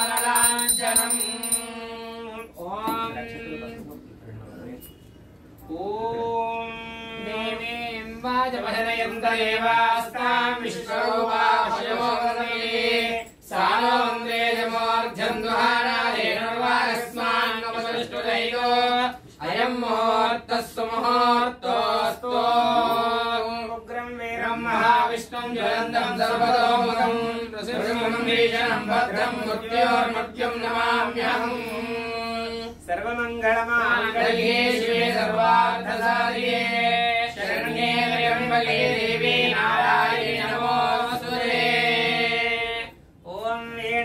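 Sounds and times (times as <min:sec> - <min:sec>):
mantras chanted on one note: 0:00.0 - 0:04.0, 0:05.6 - 0:44.0.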